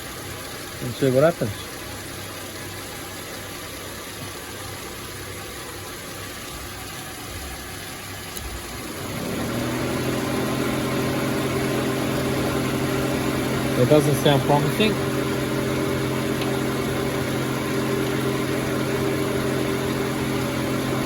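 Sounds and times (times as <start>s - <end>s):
car engine idling: 0.0s - 21.0s
electric fans humming: 0.0s - 21.0s.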